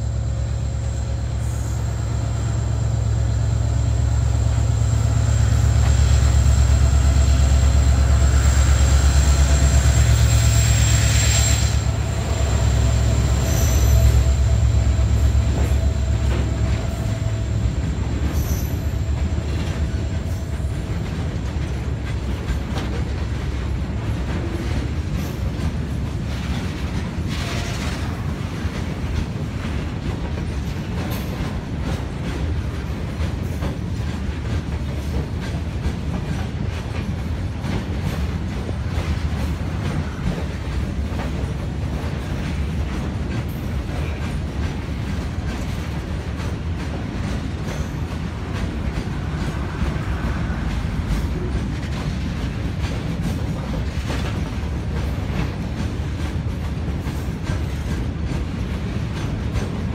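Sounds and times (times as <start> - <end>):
diesel locomotive engine hum: 0.0 - 59.9
train wheels clattering over rails: 0.0 - 59.9.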